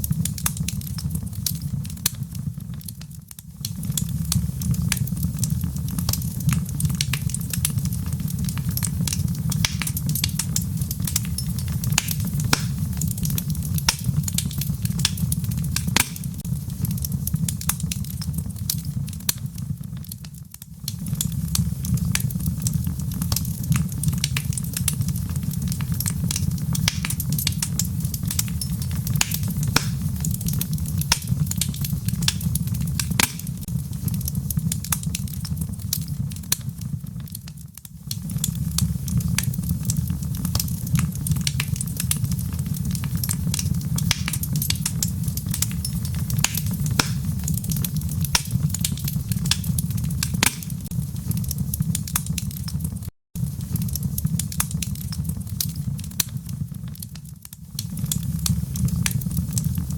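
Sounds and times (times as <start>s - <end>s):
fire popping: 0.0s - 59.9s
rain pattering: 0.0s - 59.9s
wood fire crackling: 0.0s - 59.9s.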